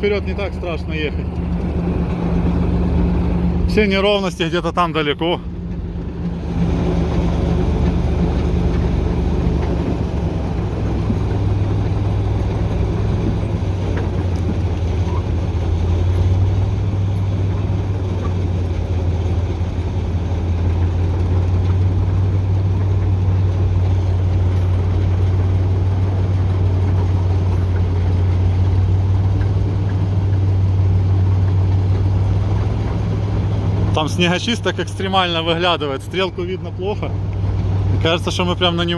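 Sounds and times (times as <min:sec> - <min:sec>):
diesel locomotive engine drone: 0:00.0 - 0:38.9
wheels rumbling on track: 0:00.0 - 0:38.9.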